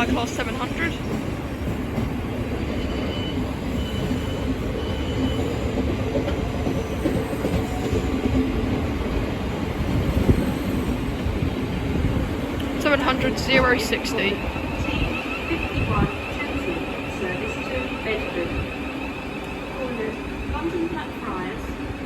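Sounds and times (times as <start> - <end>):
electric train rumbling in: 0.0 - 22.0.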